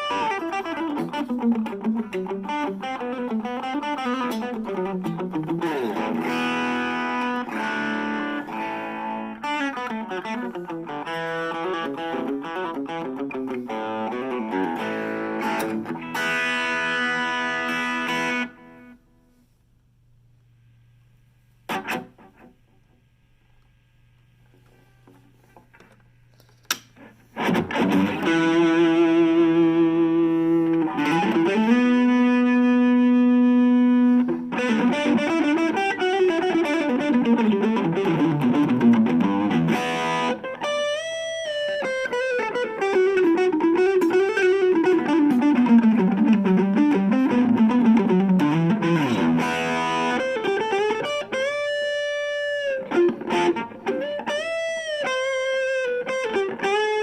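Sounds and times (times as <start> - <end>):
overdriven electric guitar: 0.0 - 19.0, 21.7 - 23.0, 24.6 - 57.0.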